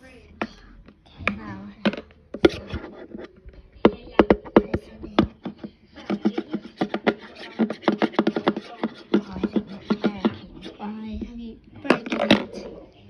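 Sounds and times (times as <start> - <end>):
plastic wand tapping plastic cauldron: 0.4 - 10.4, 11.1 - 12.7.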